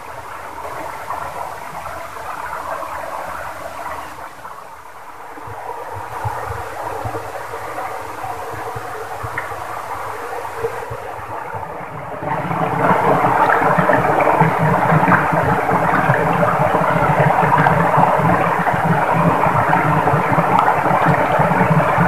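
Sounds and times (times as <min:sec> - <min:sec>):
stream splashing over rocks: 0:00.0 - 0:22.0.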